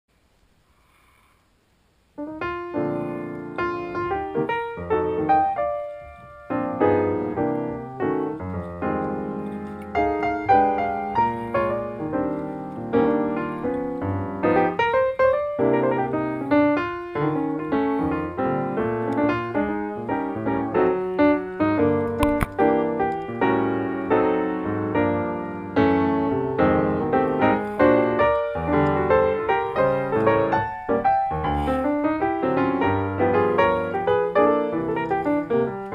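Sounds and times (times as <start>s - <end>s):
solo piano music: 2.1s - 35.9s.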